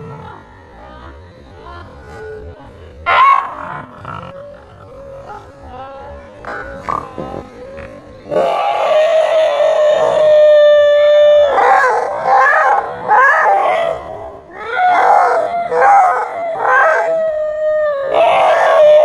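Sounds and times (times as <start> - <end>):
puppy howling and crying: 3.1 - 19.0.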